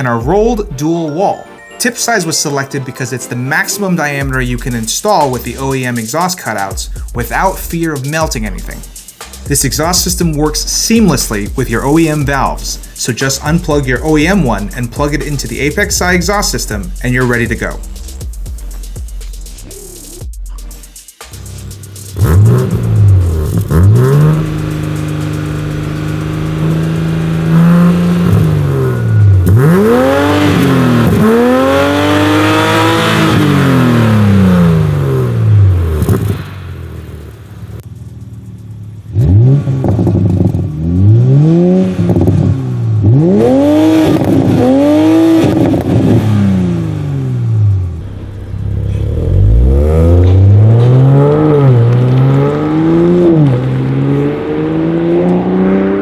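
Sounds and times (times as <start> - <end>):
car engine revving: 4.0 - 56.0.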